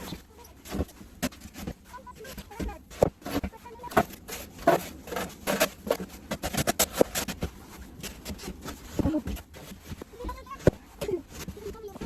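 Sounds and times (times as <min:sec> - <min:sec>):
crunching and scraping in snow: 0:00.0 - 0:12.0.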